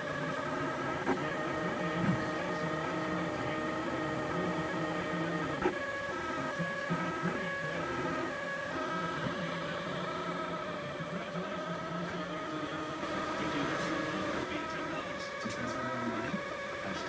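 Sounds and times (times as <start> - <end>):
cooling fan hiss: 0.0 - 17.0
stepper motors whining: 0.0 - 17.0.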